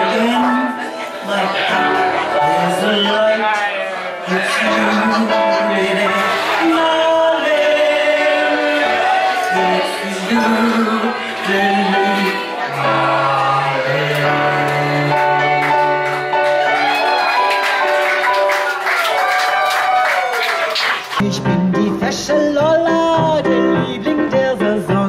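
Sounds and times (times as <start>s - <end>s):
piano accompaniment: 0.0s - 25.0s.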